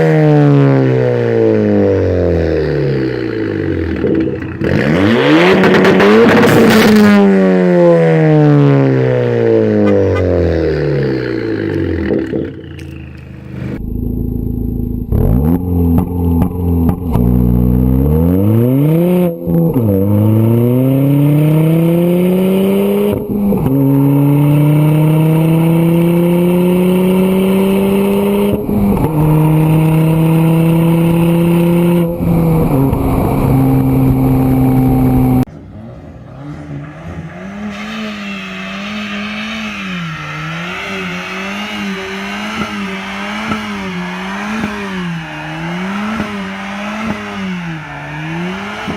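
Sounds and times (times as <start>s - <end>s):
car engine accelerating hard: 0.0s - 48.9s
car engine revving: 0.0s - 48.9s.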